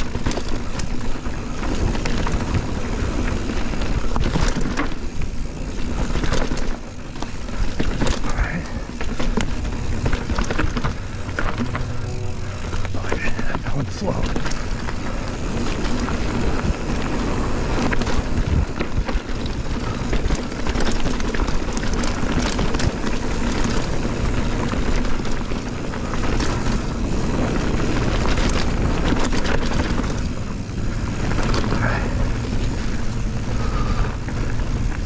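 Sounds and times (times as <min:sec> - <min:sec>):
bike rattling over bumps: 0:00.0 - 0:35.0
tyres on dirt: 0:00.0 - 0:35.0.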